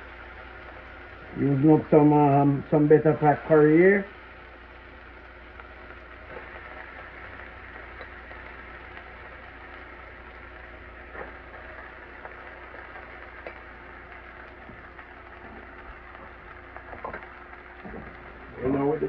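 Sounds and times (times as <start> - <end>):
chicken sizzling in a pot: 0.0 - 19.0.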